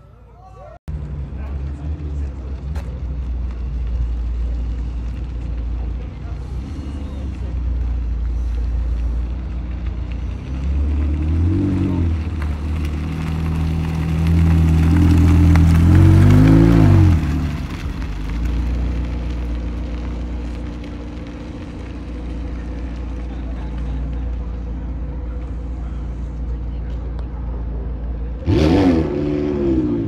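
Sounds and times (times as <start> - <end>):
sports car engine revving: 1.0 - 30.0.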